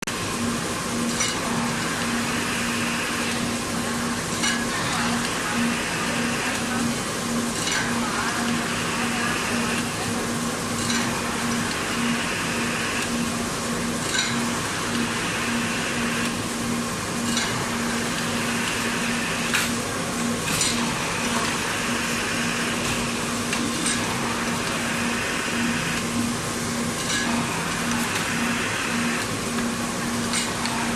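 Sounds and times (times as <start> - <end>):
machine pulsing hum: 0.1 - 30.9.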